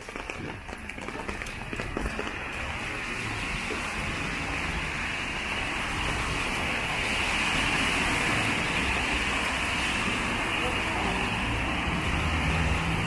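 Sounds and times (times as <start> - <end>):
traffic on wet street: 0.0 - 13.0
rain hissing: 1.5 - 13.0.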